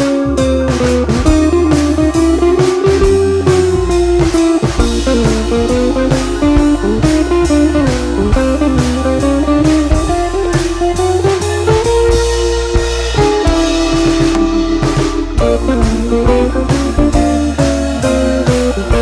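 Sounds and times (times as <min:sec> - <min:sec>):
guitar-led tune with drum beat: 0:00.0 - 0:19.0.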